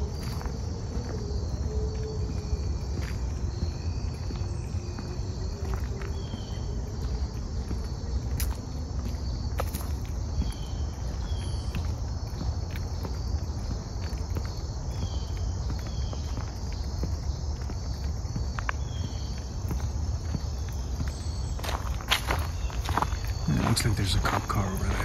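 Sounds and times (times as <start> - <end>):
footsteps clicking: 0.0 - 25.0
insects calling in pulsing chorus: 0.0 - 25.0.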